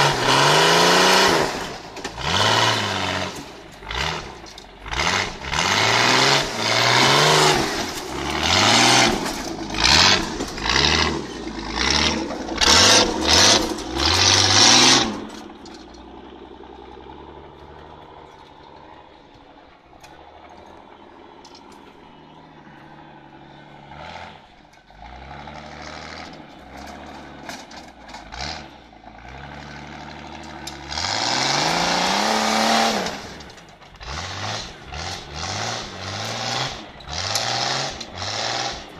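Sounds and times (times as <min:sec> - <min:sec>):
off-road engines revving: 0:00.0 - 0:38.9.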